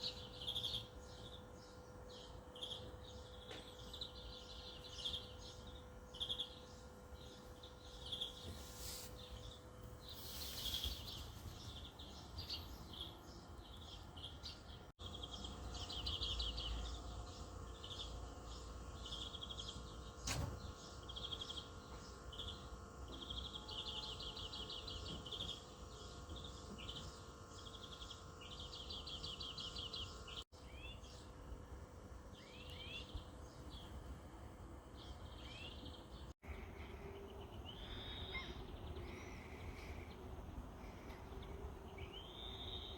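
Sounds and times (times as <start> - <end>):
songbirds trilling and chirping: 0.0 - 42.9.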